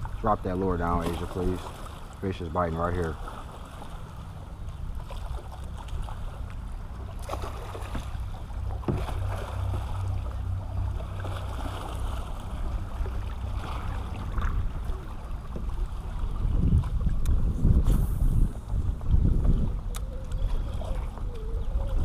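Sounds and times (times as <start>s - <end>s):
boat motor humming: 0.0s - 22.0s
water lapping against hull: 0.0s - 22.0s.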